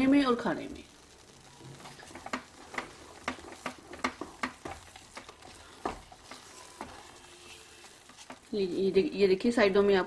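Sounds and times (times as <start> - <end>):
spatula stirring in a frying pan: 0.0 - 9.9
soft clicks and pops of frying: 0.0 - 10.0.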